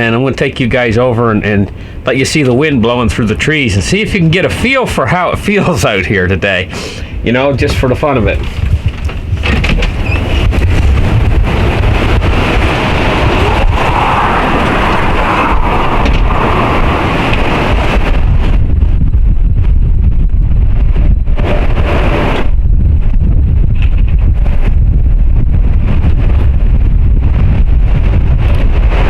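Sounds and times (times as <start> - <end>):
strong wind through trees: 0.0 - 29.0
wind buffeting microphone: 0.0 - 29.0.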